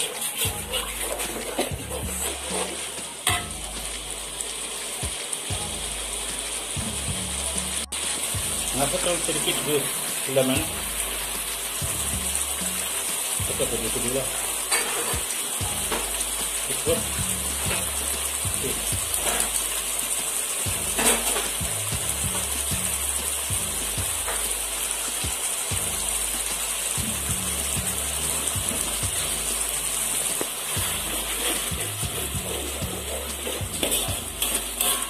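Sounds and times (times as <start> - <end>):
background music: 0.0 - 35.0
sauce sizzling and bubbling: 0.0 - 35.0.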